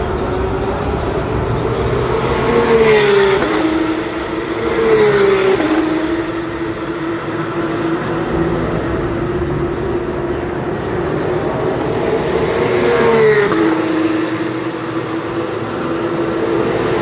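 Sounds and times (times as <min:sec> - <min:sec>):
race cars passing at speed: 0:00.0 - 0:17.0
steady engine drone: 0:00.0 - 0:17.0.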